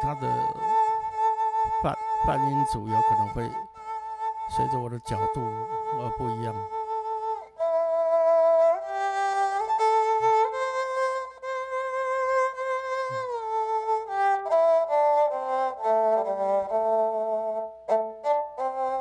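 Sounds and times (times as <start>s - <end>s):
keyboard erhu melody with slides: 0.0s - 19.0s.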